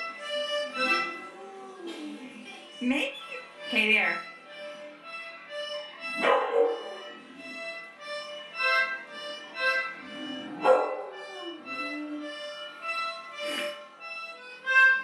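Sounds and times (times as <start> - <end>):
toy accordion notes: 0.0 - 1.6, 2.6 - 15.0.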